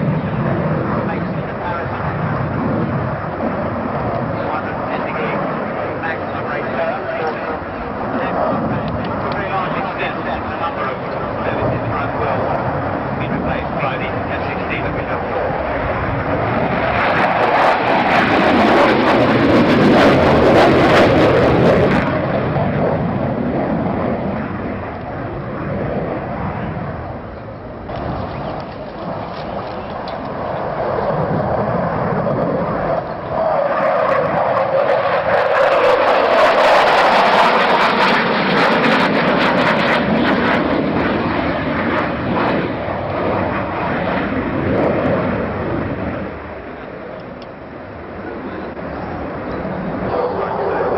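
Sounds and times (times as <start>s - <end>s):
jet aircraft flying past: 0.0s - 50.9s.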